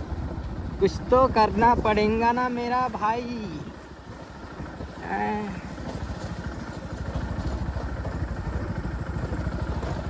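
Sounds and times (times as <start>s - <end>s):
vehicle engine pulsing: 0.0s - 10.0s.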